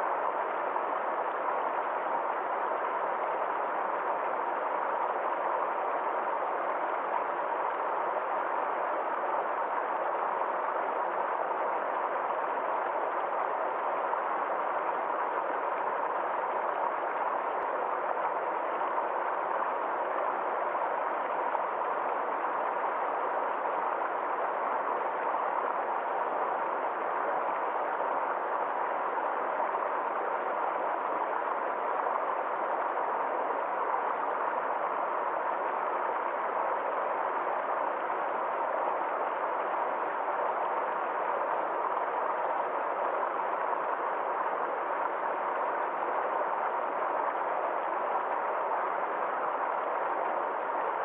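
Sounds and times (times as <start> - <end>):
stream water flowing: 0.0 - 51.0.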